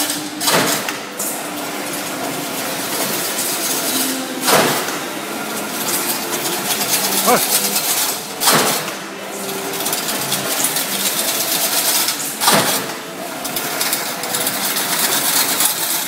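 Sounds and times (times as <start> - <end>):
weaving machine clattering: 0.0 - 16.0.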